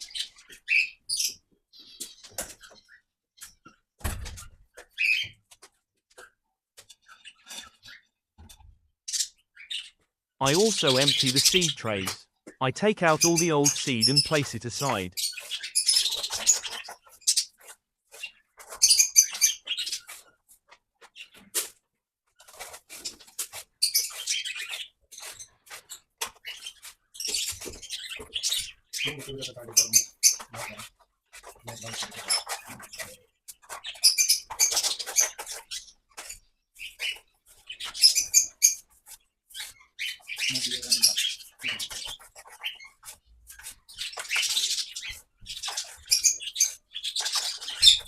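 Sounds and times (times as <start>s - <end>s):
small birds chirping and squeaking: 0.0s - 10.2s, 15.2s - 21.6s, 22.3s - 48.0s.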